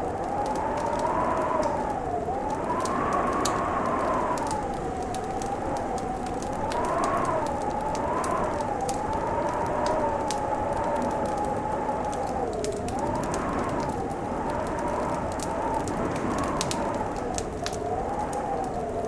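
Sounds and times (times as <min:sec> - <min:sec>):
fireplace crackling and popping: 0:00.0 - 0:18.8
howling blizzard wind: 0:00.0 - 0:19.0.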